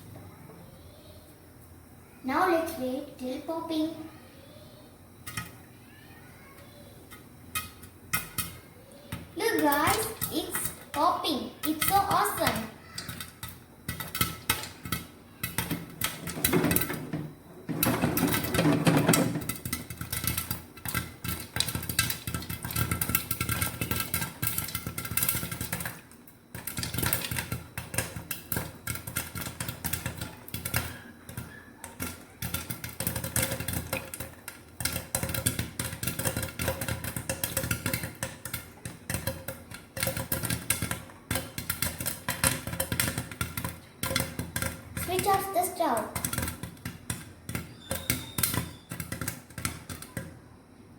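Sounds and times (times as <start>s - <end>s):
popcorn popping in a pan: 0.0s - 50.9s.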